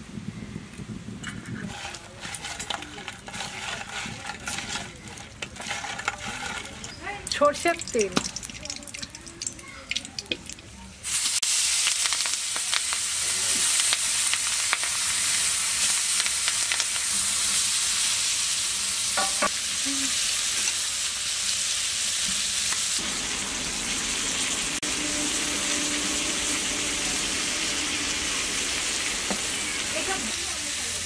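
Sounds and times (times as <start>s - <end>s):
prawns sizzling in hot oil: 1.7s - 31.0s.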